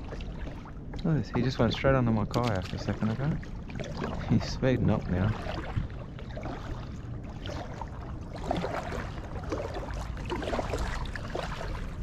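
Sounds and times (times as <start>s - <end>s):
water lapping against hull: 0.0s - 12.0s
wind rumble on microphone: 0.0s - 12.0s.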